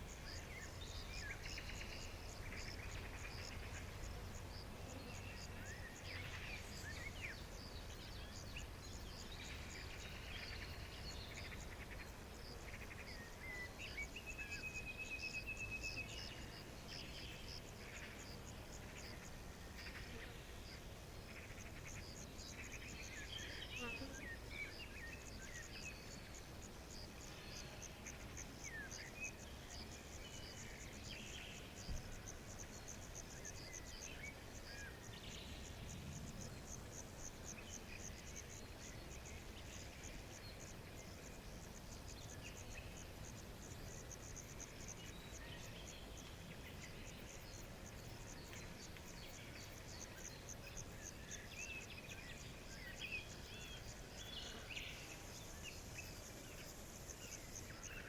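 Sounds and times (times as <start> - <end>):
insect chirping: 0.0 - 58.0.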